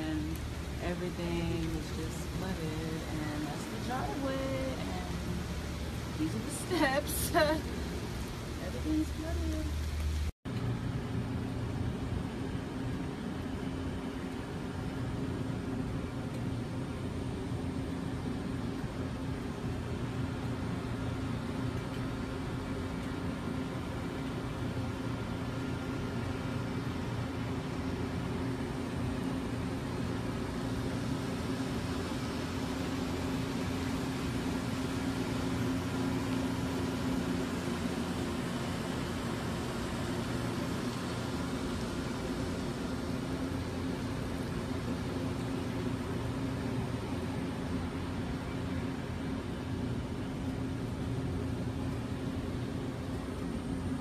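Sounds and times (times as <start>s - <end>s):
aircraft cabin engine noise: 0.0s - 54.0s
constant hiss: 0.0s - 54.0s
low mechanical hum: 0.0s - 54.0s.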